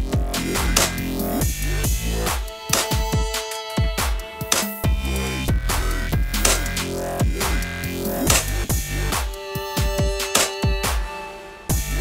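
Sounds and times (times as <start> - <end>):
electronic music with heavy beat: 0.0 - 12.0.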